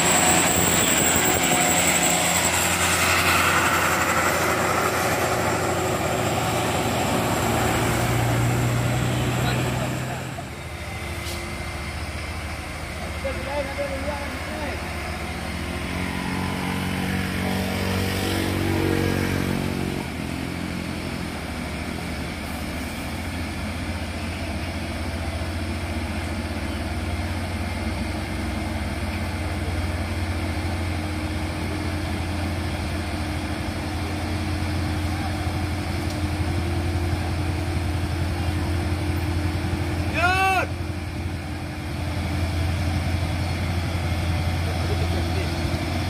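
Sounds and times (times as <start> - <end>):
diesel truck engine drone: 0.0 - 46.0.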